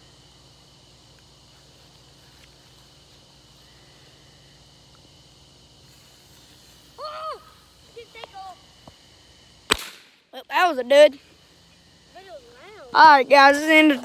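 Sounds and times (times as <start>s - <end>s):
night insects chorus: 0.0s - 14.0s.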